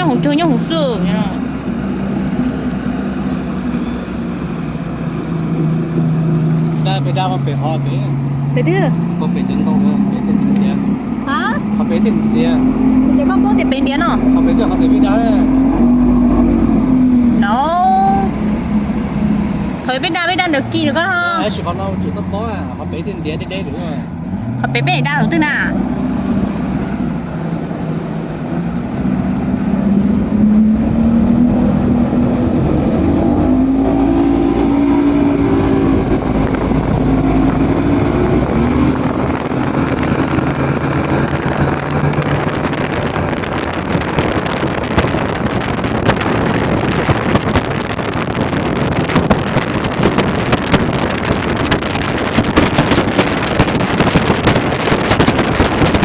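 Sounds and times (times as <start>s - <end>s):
motorboat engine speeding up: 0.0s - 56.0s
wind buffeting microphone: 8.3s - 56.0s.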